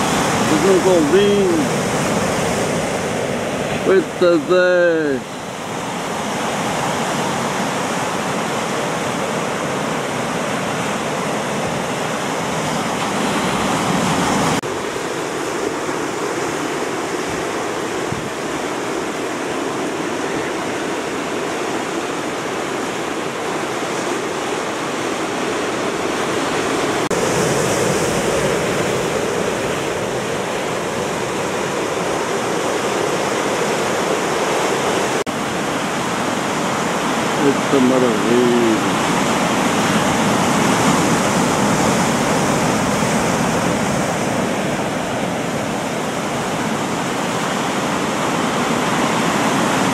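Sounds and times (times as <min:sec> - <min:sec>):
ocean surf breaking on rocks: 0:00.0 - 0:49.9.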